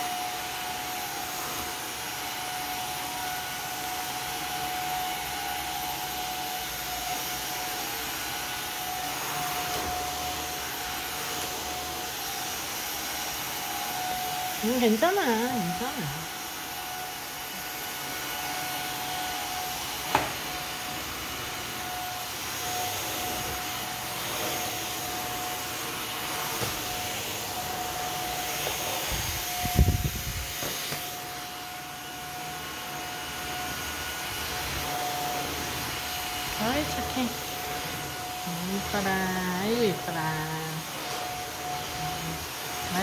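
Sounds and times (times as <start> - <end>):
vacuum cleaner whining: 0.0 - 43.0.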